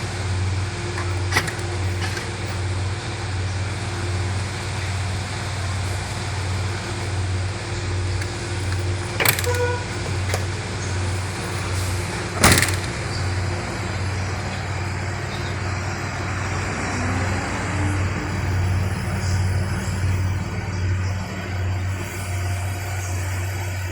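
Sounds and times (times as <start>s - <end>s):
diesel engine idling: 0.0s - 23.9s.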